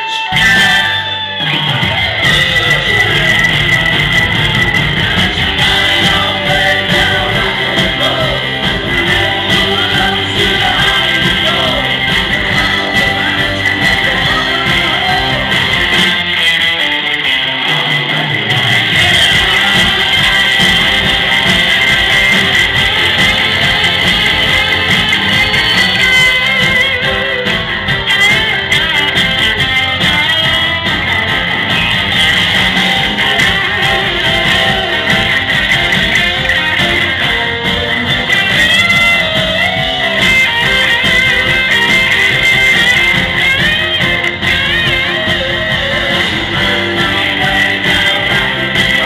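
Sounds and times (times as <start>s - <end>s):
electric guitars: 0.0s - 49.0s
live rock band playing: 0.0s - 49.0s.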